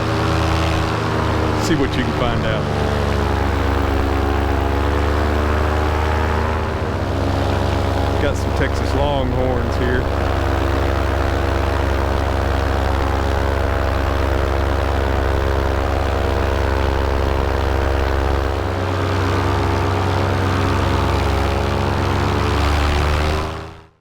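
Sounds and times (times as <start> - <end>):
paramotor engine drone: 0.0 - 24.0.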